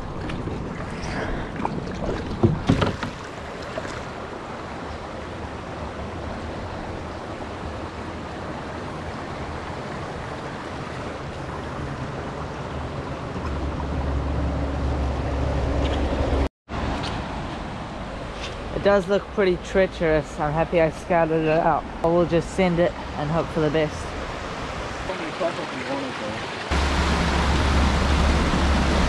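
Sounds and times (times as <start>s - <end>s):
water splashes: 0.0s - 14.2s, 17.0s - 29.0s
river water rushing: 0.0s - 29.0s.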